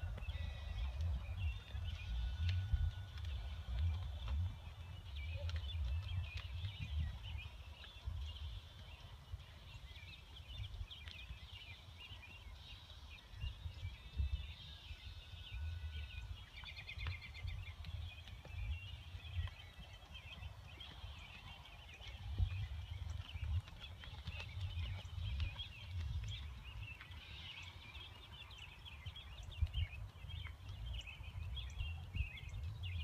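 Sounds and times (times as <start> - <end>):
birds chirping and singing: 0.0 - 33.0.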